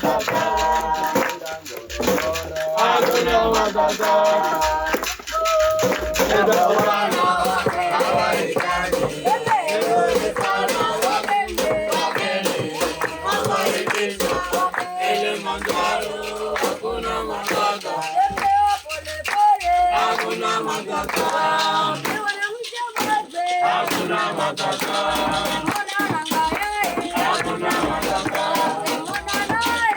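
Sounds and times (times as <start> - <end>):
people singing: 0.0 - 29.9
rhythmic percussive beat: 0.0 - 29.9.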